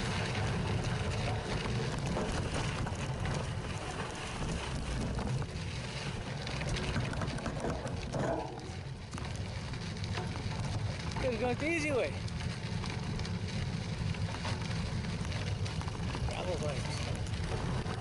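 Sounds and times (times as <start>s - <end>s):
bike tyres crunching over dirt: 0.0s - 18.0s
wind rumble on microphone: 0.0s - 18.0s.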